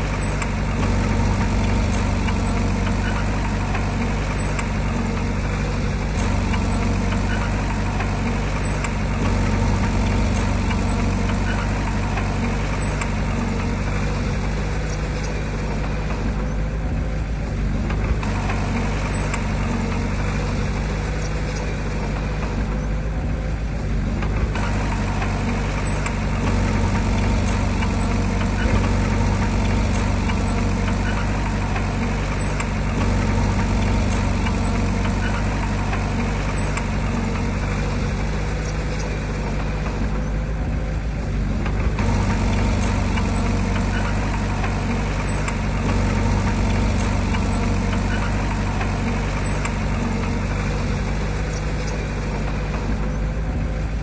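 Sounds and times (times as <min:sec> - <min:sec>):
heavy diesel engine droning: 0:00.0 - 0:54.0
rattling scraping noise: 0:00.0 - 0:54.0.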